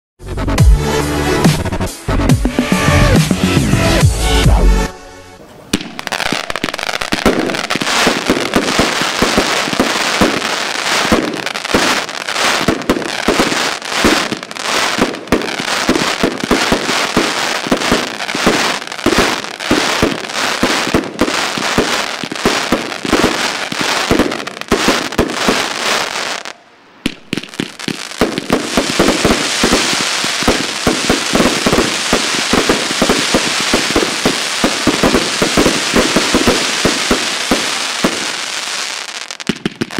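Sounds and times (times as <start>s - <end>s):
crackling firework stars: 5.4s - 39.9s
firework launch thumps and bursts: 5.7s - 26.1s, 27.0s - 39.9s.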